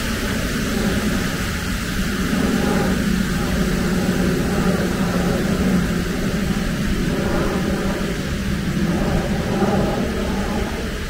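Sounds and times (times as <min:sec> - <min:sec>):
constant low drone: 0:00.0 - 0:11.0
rain hissing: 0:00.0 - 0:11.0.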